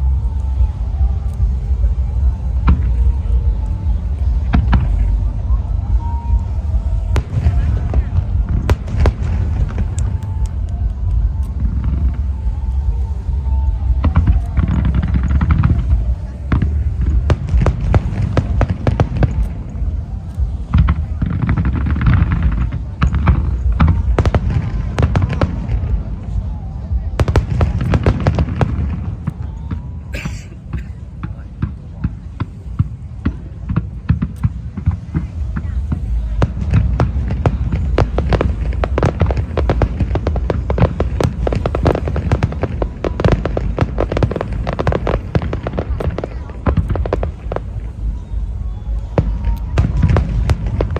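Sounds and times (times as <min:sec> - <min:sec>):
fireworks bangs: 0:00.0 - 0:50.9
low rumble: 0:00.0 - 0:50.9.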